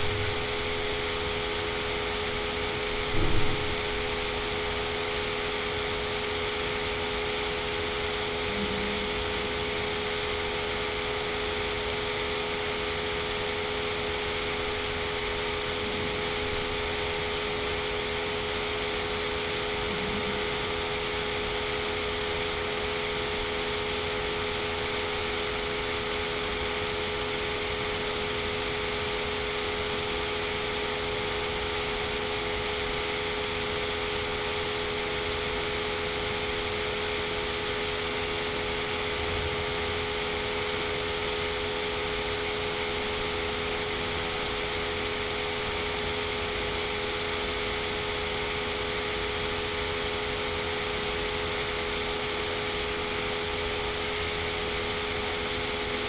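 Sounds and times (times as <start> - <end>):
steady electrical hum and hiss: 0.0 - 56.0.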